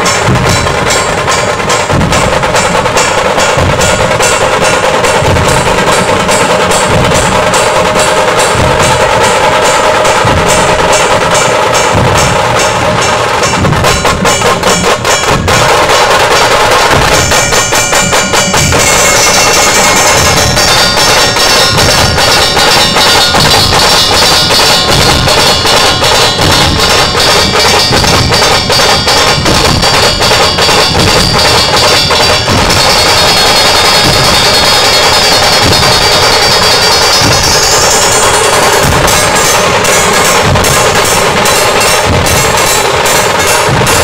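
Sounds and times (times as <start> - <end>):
barrel drums in fast rhythm: 0.0 - 44.0
high ringing layer: 0.0 - 44.0.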